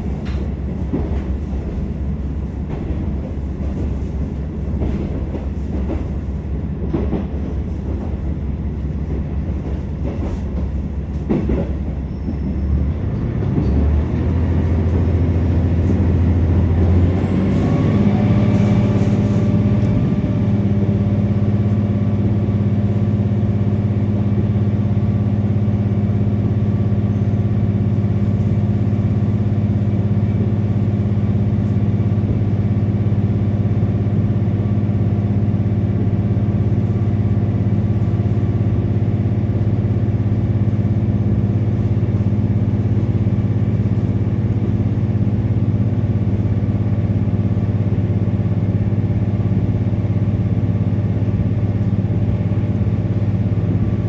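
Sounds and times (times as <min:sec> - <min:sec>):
diesel railcar engine drone: 0:00.0 - 0:54.0
wheels rumbling on rails: 0:00.0 - 0:54.0.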